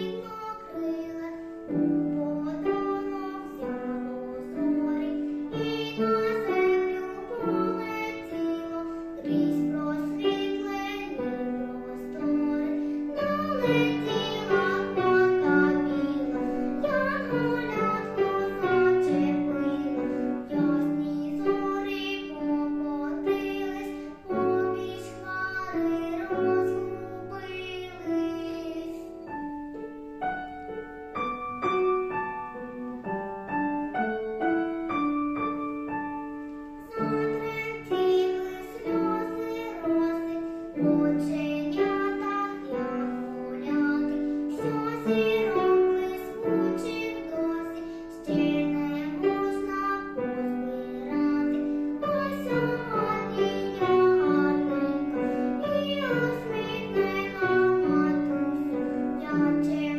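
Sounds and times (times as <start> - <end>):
girl singing: 0.0 - 59.9
piano accompaniment: 0.0 - 59.9.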